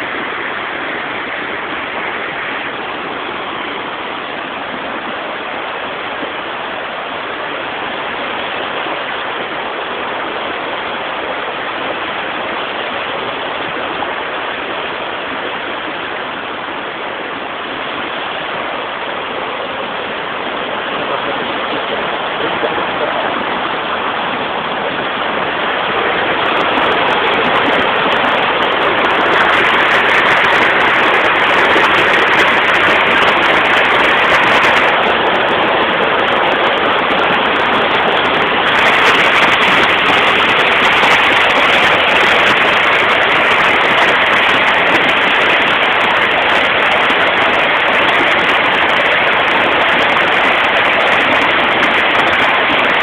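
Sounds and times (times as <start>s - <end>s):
floodwater rushing over rocks: 0.0s - 53.0s.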